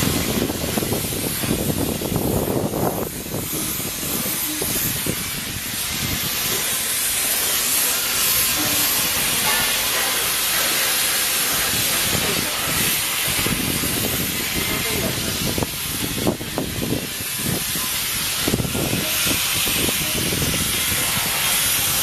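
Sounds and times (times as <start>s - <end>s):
spray equipment hissing: 0.0s - 22.0s.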